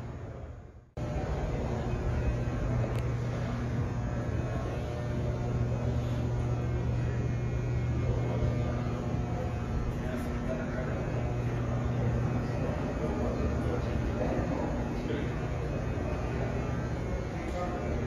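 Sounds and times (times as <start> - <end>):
faint distant voices: 0.0 - 18.0
steady low hum: 0.0 - 18.0.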